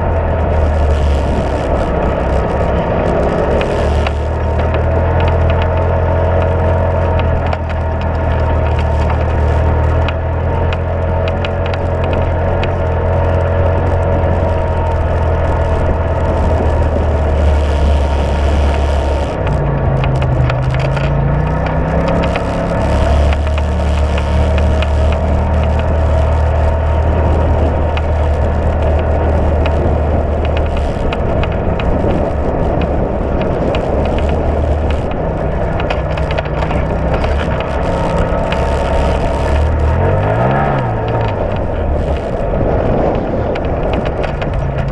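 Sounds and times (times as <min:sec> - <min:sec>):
vehicle engine drone: 0:00.0 - 0:44.9.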